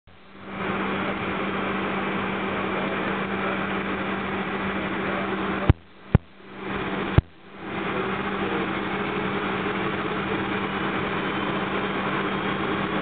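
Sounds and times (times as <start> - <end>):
jet engine cabin hiss and hum: 0.1 - 13.0.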